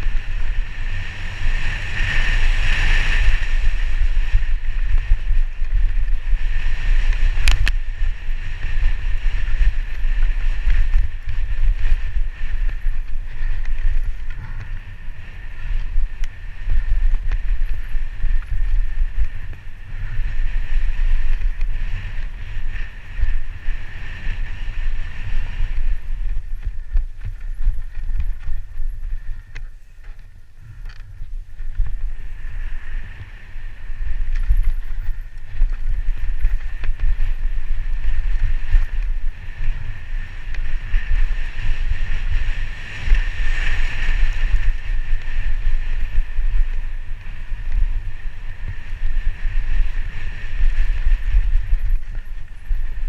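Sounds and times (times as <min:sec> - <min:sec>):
bike tyres rattling and rumbling: 0:00.0 - 0:53.0
wind buffeting on microphone: 0:00.0 - 0:53.0.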